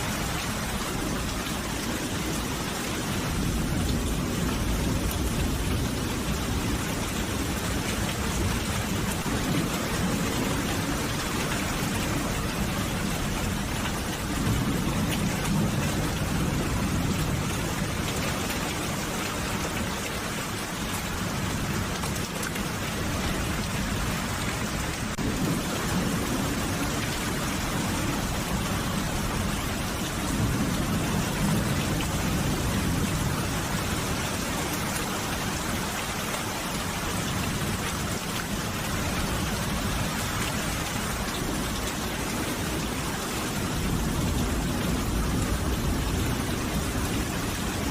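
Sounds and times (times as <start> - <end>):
steady rain falling: 0.0 - 47.9
thunder rumbling: 0.0 - 47.9.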